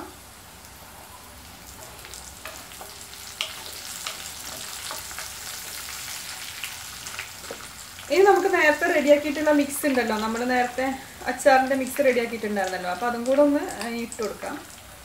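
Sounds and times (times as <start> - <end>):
aromatics sizzling in hot oil: 0.0 - 15.0.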